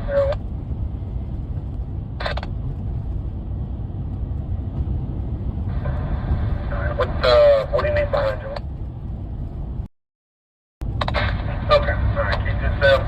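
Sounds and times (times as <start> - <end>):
vehicle road and engine rumble: 0.0 - 9.9, 10.8 - 13.0.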